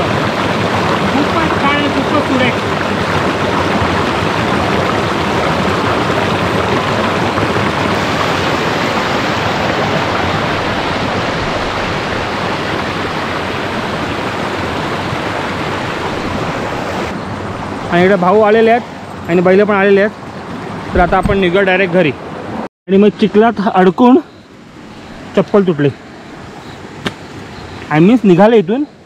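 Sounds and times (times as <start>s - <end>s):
stream rushing over rocks: 0.0s - 22.6s, 24.6s - 29.0s.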